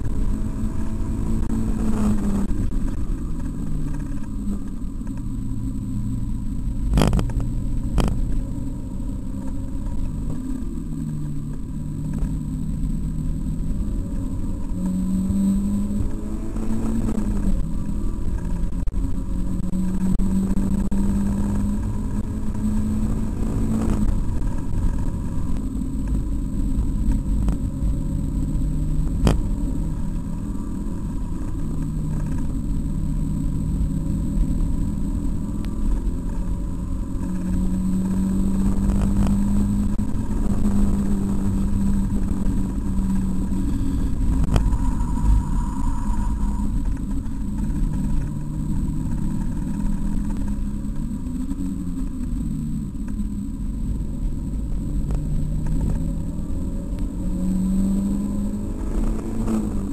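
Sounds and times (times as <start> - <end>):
car engine from inside cabin: 0.0 - 59.9
steady rumble: 0.0 - 59.9.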